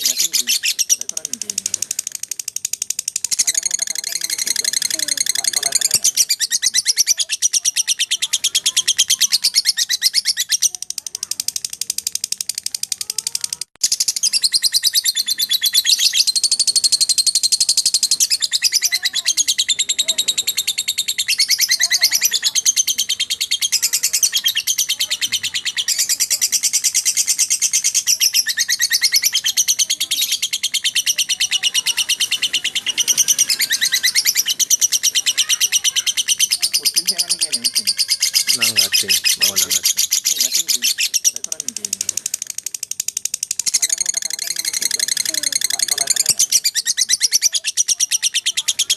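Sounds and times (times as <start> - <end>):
lovebird chattering trill: 0.0 - 48.9.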